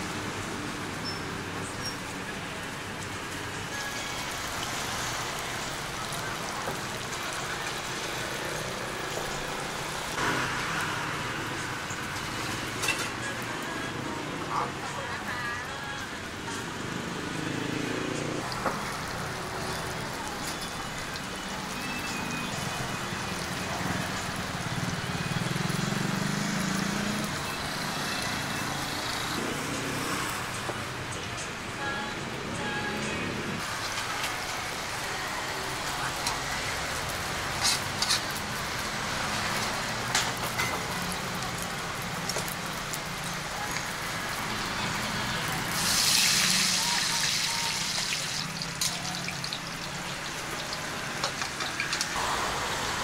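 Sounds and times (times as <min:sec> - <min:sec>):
street noise hiss: 0:00.0 - 0:53.0.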